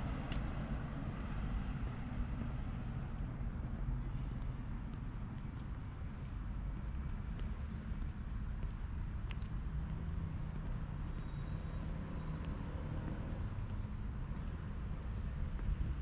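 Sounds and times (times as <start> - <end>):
distant road traffic rumble: 0.0 - 16.0
faint engine hum: 0.0 - 16.0.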